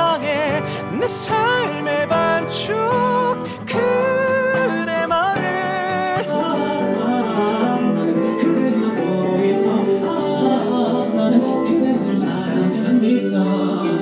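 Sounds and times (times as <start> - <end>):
guitar playing ballad: 0.0 - 14.0
person singing: 0.0 - 14.0.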